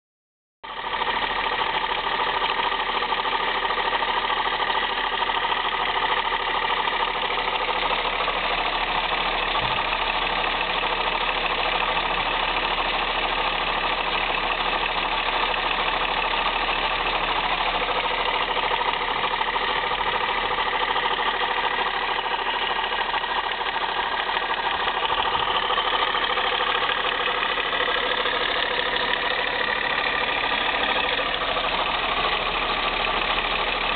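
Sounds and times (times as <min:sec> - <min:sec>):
car engine running: 0:00.6 - 0:33.9.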